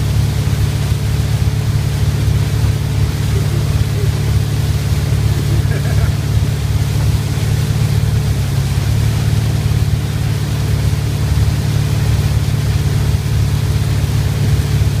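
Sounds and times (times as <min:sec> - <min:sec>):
motorboat engine running: 0:00.0 - 0:15.0
water spray rushing: 0:00.0 - 0:15.0
wind: 0:00.0 - 0:15.0.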